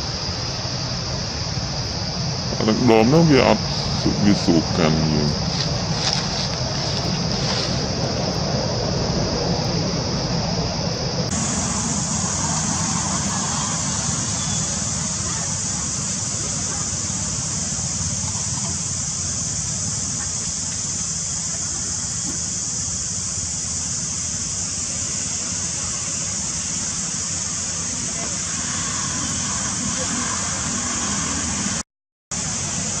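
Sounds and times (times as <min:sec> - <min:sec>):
high-pitched hiss: 0:00.0 - 0:33.0.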